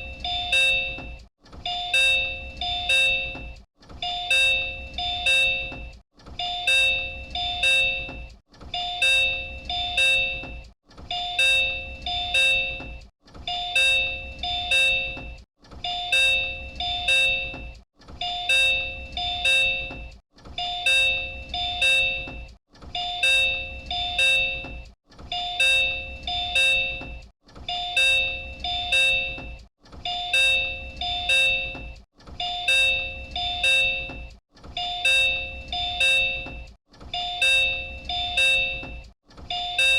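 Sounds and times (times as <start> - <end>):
two-note door chime: 0.0 - 39.9.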